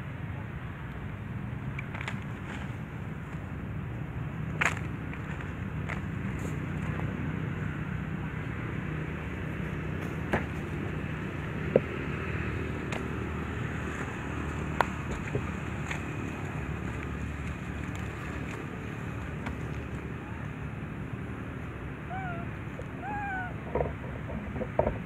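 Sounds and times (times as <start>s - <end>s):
low outdoor background rumble: 0.0s - 25.0s.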